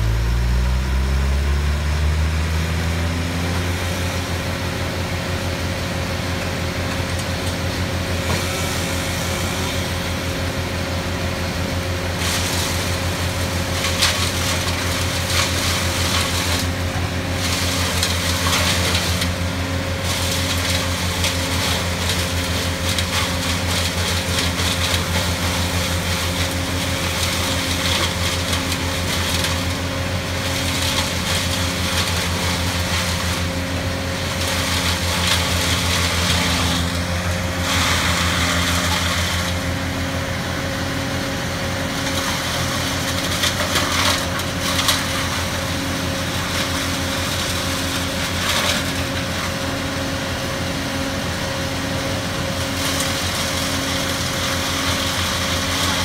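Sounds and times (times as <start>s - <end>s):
branches grinding in chipper: 0.0s - 56.0s
brush chipper engine hum: 0.0s - 56.0s.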